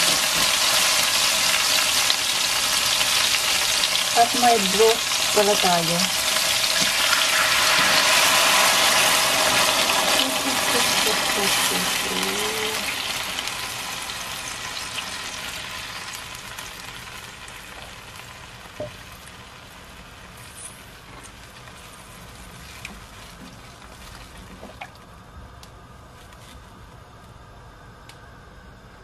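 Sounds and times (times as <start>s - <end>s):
broth sizzling in hot pan: 0.0s - 24.8s.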